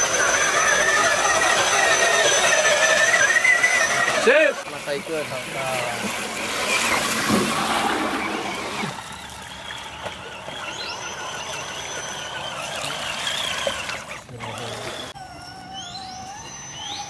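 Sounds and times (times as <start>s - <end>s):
mud and water sloshing: 0.0s - 15.2s
electric motor whining: 0.0s - 17.0s.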